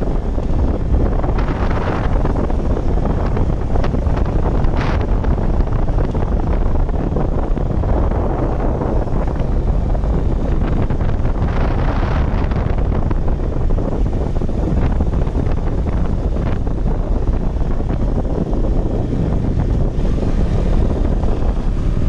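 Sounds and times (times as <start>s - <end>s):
motorcycle engine: 0.0s - 22.0s
road noise: 0.0s - 22.0s
wind buffeting microphone: 0.0s - 22.0s.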